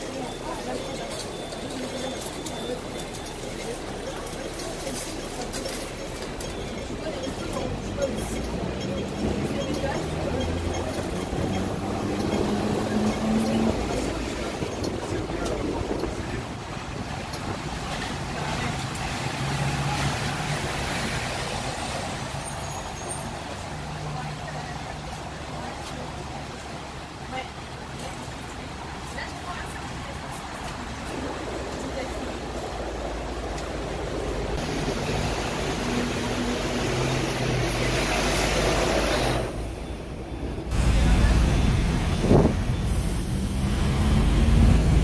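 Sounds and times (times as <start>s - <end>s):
tram motor humming: 0.0s - 22.4s, 25.2s - 45.0s
wheels rumbling on rails: 0.0s - 45.0s.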